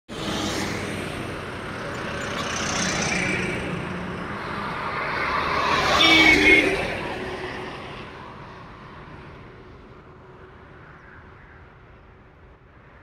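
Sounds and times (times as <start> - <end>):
heavy lorries passing: 0.1 - 10.8.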